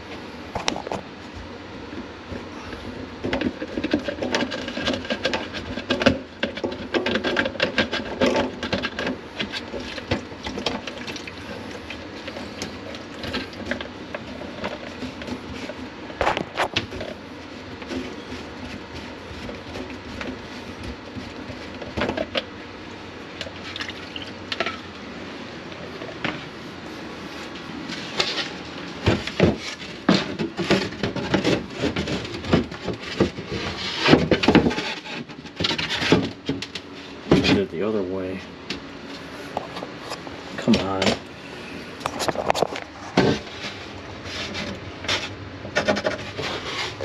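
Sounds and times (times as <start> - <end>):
clattering and knocking of objects: 0.5 - 22.6, 23.3 - 25.0, 25.8 - 26.6, 27.5 - 38.0, 38.6 - 47.0.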